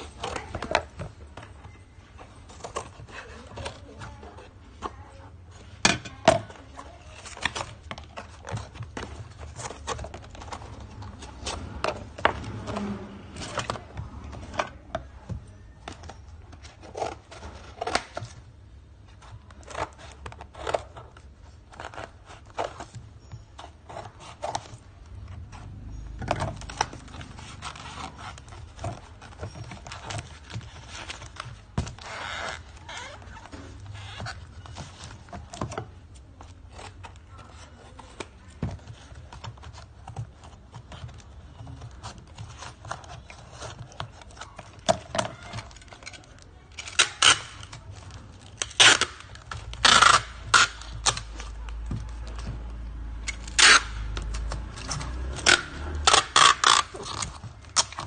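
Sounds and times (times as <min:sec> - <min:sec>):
paper rustling and creasing: 0:00.0 - 0:05.8, 0:06.6 - 0:58.0.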